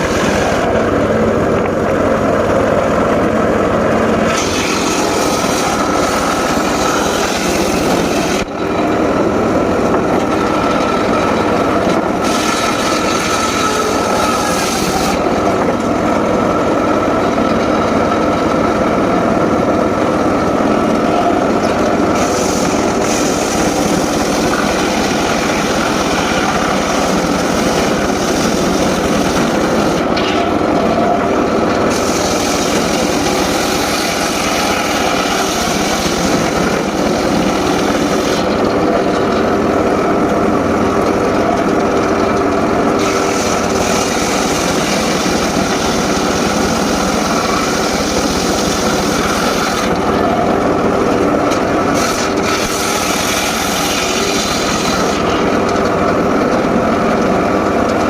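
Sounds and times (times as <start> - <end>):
saw cutting wood: 0.0 - 55.9
circular saw running: 0.0 - 58.0.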